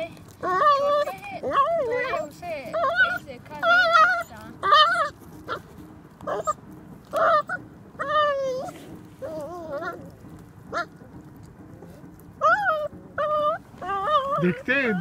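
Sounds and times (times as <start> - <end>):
puppy whining: 0.0 - 15.0.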